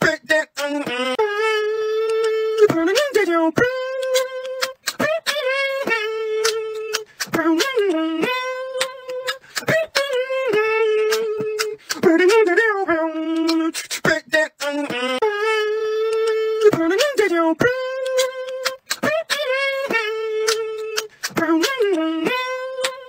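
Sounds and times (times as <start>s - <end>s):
beatboxing vocal notes: 0.0s - 23.0s
percussive mouth sounds: 0.0s - 23.0s.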